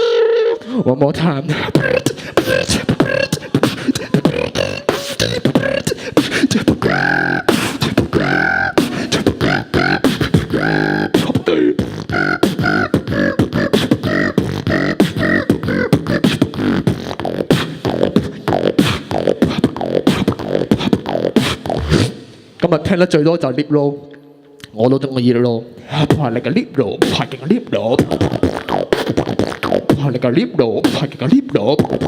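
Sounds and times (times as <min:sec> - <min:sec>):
person beatboxing: 0:00.0 - 0:22.6, 0:25.8 - 0:32.0.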